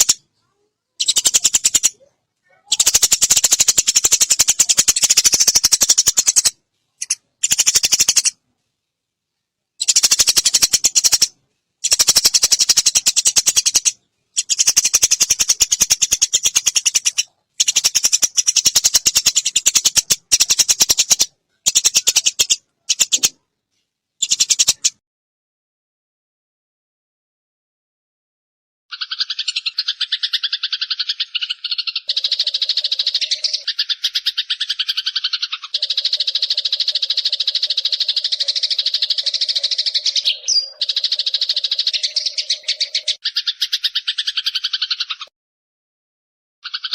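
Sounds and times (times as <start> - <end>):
sparrow rattling chatter calls: 0.0 - 0.2, 1.0 - 8.4, 9.8 - 23.4, 24.2 - 25.0, 28.9 - 45.3, 46.6 - 46.9.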